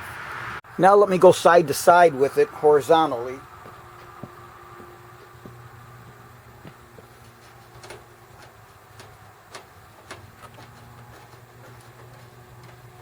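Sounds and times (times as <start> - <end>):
low hum: 2.4 - 13.0.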